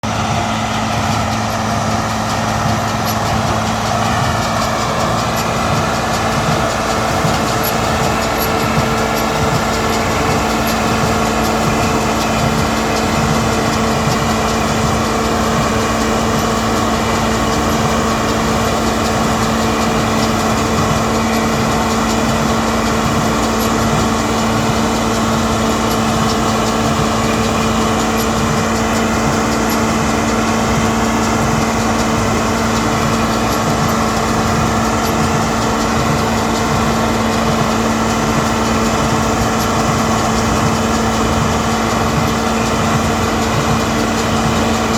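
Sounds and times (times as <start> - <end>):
tractor engine drone: 0.0 - 44.9.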